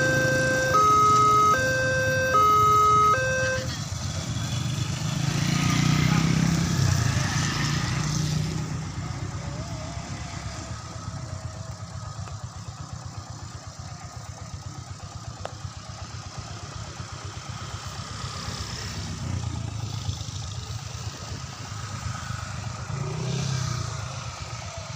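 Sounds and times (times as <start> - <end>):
vehicle engines rumbling: 0.0 - 24.9.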